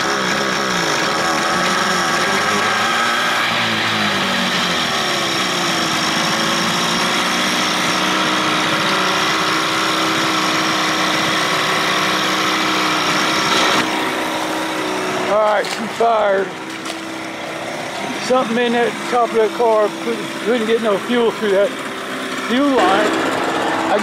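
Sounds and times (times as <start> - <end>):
outboard motor idling: 0.0 - 24.0.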